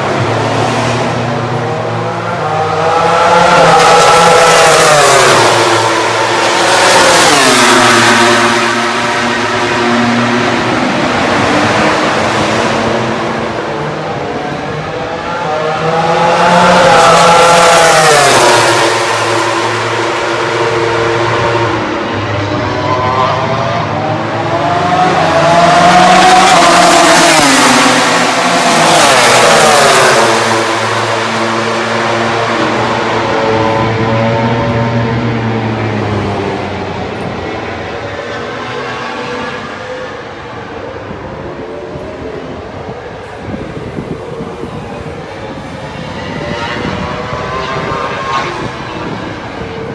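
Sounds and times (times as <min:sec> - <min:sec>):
racing motorcycles passing at high revs: 0:00.0 - 0:41.9, 0:42.5 - 0:49.9.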